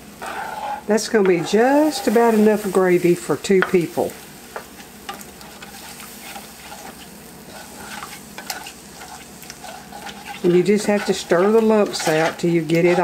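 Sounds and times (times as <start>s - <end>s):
low sizzle from pan: 0.0s - 13.0s
spatula scraping a skillet: 0.2s - 3.2s, 4.6s - 13.0s.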